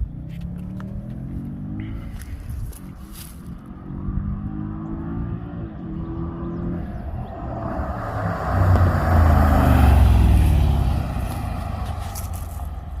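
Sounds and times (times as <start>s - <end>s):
engine exhaust rumble: 0.0s - 13.0s.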